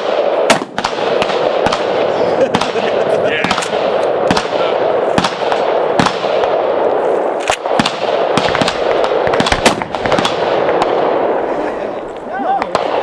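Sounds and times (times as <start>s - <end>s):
gunshots: 0.0s - 13.0s.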